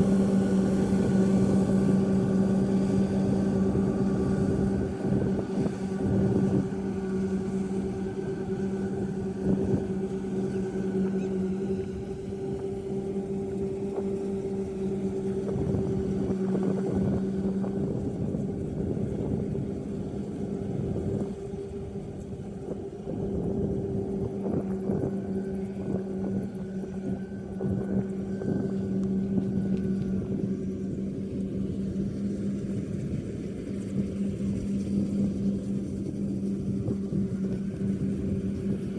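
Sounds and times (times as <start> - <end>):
harvester engine drone: 0.0 - 38.9.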